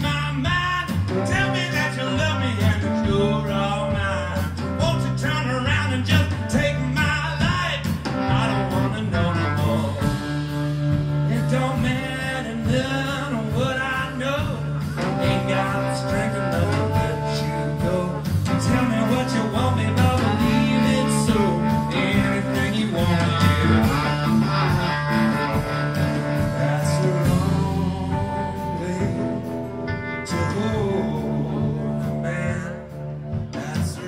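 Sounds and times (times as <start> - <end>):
guitar accompaniment: 0.0 - 34.0
man singing into a microphone: 0.0 - 34.0
steady beat: 0.0 - 34.0.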